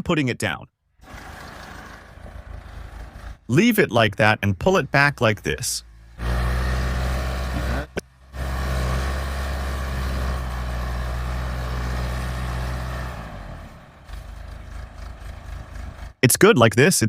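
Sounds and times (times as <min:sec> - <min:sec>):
vehicle engine humming: 0:00.9 - 0:16.4.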